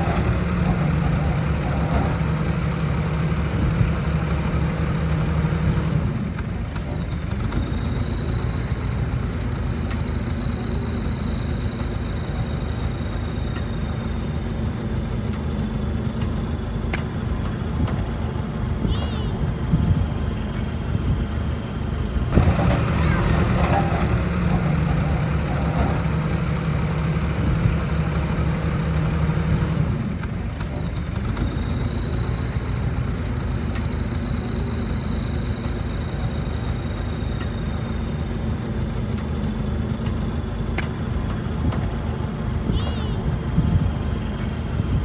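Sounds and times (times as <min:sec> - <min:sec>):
heavy machinery diesel engine: 0:00.0 - 0:45.0.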